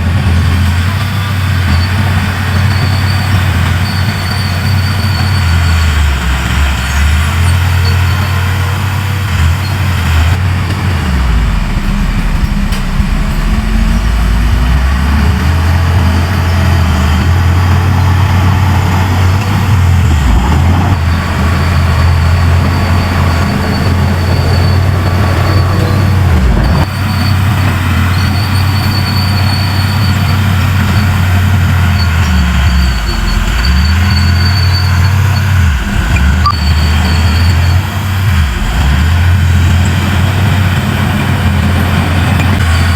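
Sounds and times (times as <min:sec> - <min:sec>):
bulldozer diesel engine under load: 0:00.0 - 0:42.9.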